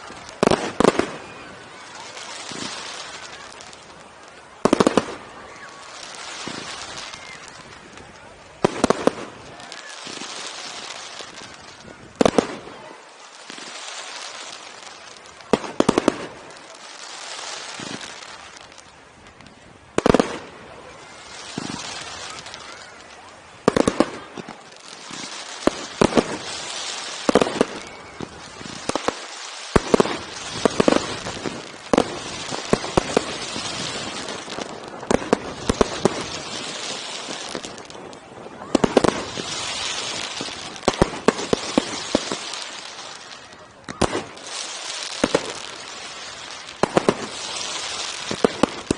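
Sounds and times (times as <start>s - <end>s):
fireworks bursting in bangs: 0.0s - 48.9s
steady hiss: 0.0s - 48.9s.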